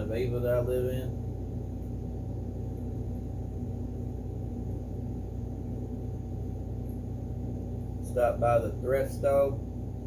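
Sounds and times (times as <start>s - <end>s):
faint constant tone: 0.0s - 10.0s
low steady hum: 0.0s - 10.0s.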